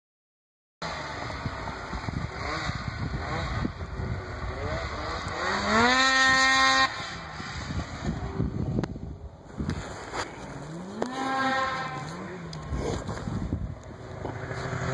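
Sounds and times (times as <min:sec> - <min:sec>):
snowmobile engine revving: 0:00.8 - 0:14.9.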